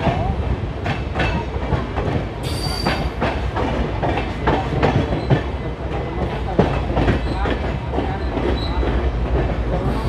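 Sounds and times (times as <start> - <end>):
train wheels clattering: 0.0 - 10.0.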